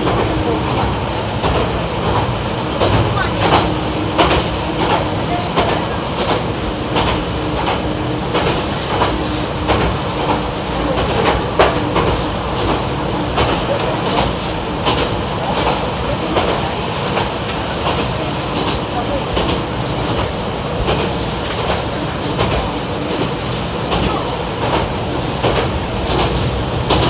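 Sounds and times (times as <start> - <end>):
diesel engine drone: 0.0 - 27.0
wheels clicking over rail joints: 0.0 - 27.0.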